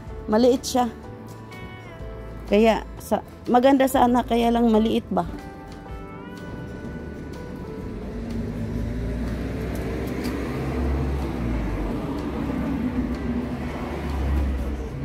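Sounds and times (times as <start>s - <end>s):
vehicle engine rumbling: 2.0s - 15.0s.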